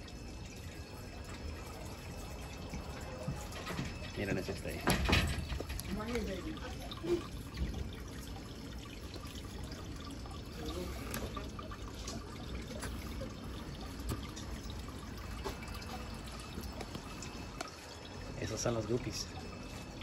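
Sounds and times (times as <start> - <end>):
water trickling and pouring: 0.0 - 20.0.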